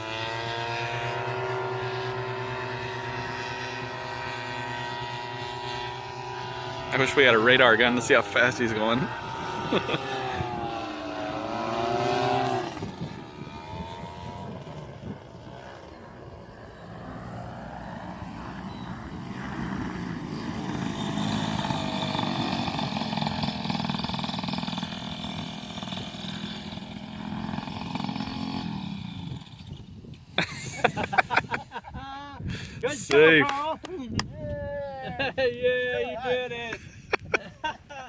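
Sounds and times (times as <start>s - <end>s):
paramotor engine droning: 0.0s - 31.7s.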